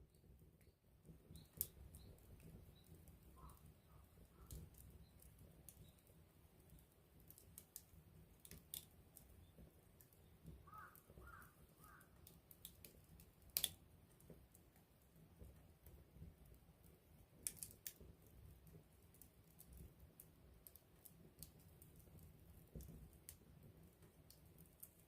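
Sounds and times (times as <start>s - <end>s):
campfire wood crackling: 0.0s - 25.0s.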